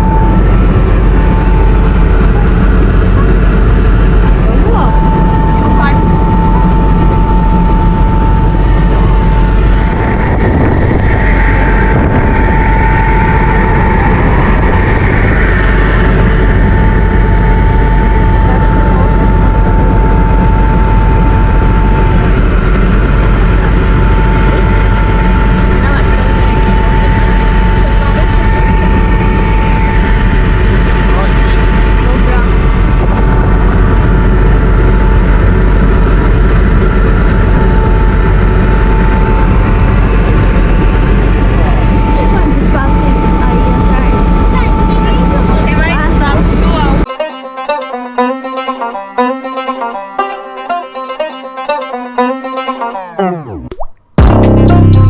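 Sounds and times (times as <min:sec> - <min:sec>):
helicopter engine and rotor noise: 0:00.0 - 0:47.1
high engine whine: 0:00.0 - 0:55.0.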